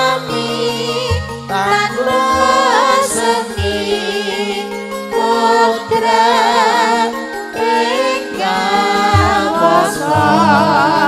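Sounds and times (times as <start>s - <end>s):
woman singing with vibrato: 0.0s - 4.6s, 5.2s - 11.0s
sustained keyboard chords: 0.0s - 11.0s.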